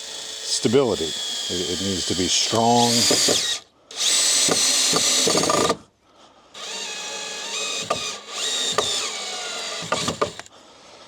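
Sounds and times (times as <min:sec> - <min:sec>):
power drill driving screws: 0:00.0 - 0:05.8, 0:06.6 - 0:10.5.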